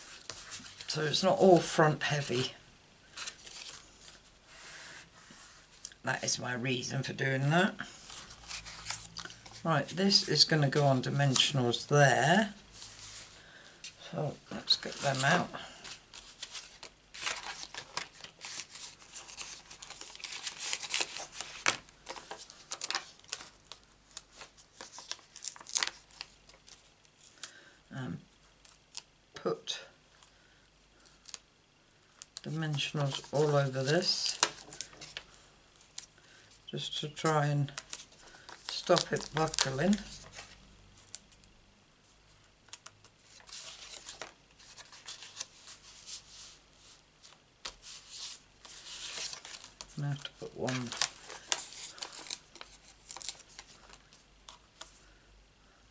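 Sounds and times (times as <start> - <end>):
paper and card rustling: 0.0 - 5.8, 7.8 - 11.8, 12.7 - 27.5, 32.4 - 36.1, 36.8 - 41.5, 42.7 - 55.2.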